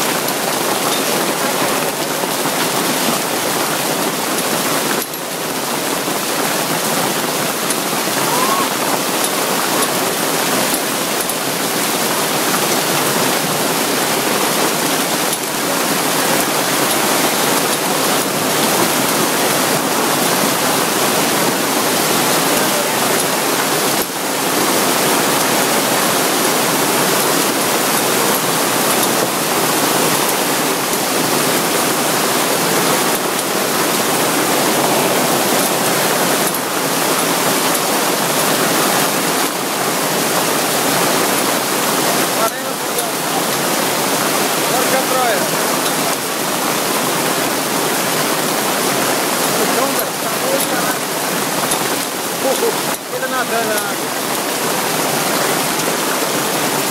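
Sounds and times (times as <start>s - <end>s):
heavy rain hiss: 0.0s - 56.9s
running water: 0.0s - 56.9s.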